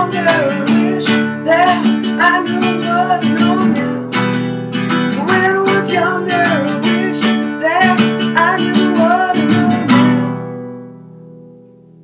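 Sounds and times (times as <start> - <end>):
classical guitar strumming: 0.0 - 12.0.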